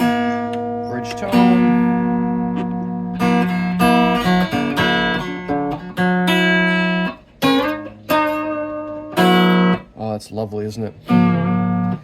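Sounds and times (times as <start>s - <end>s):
electric guitar chords strummed: 0.0s - 10.0s, 10.9s - 12.0s
steady low amplifier hum: 0.0s - 12.0s.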